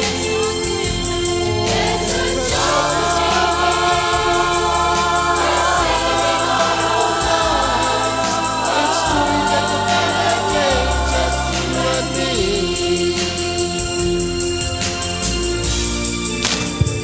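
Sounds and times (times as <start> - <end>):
mixed choir singing in harmony: 0.0 - 15.8
instrumental accompaniment with bass: 0.0 - 17.0.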